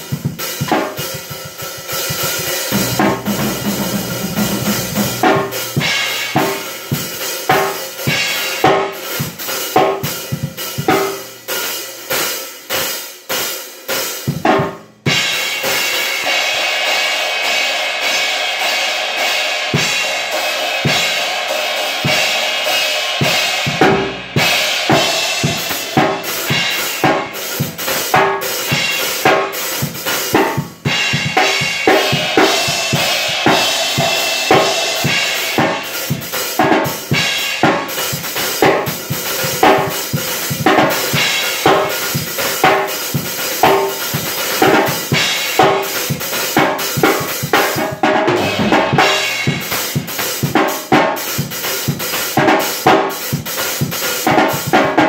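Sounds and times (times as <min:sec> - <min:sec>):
drum kit playing steady beat: 0:00.0 - 0:55.0.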